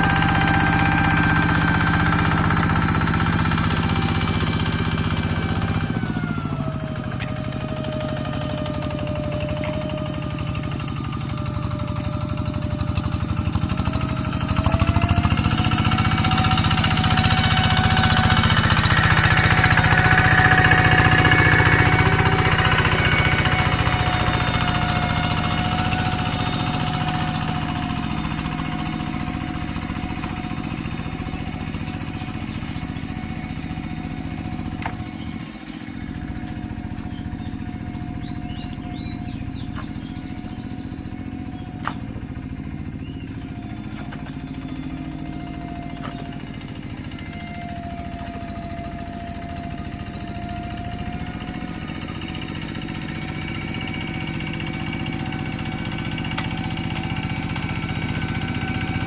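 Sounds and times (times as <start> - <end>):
tractor engine running hard: 0.0 - 59.0.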